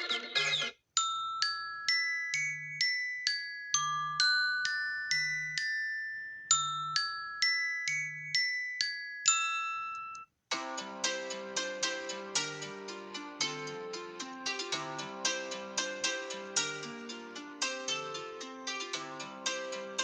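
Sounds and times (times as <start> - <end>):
bell-like ringtone melody: 0.0 - 20.0.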